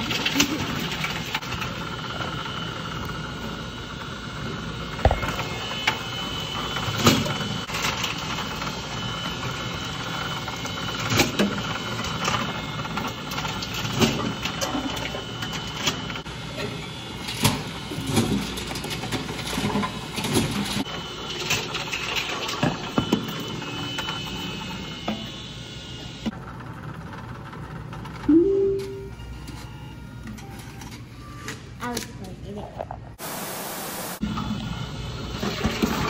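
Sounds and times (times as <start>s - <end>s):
conveyor motor whirring: 0.0s - 31.8s, 33.2s - 36.0s.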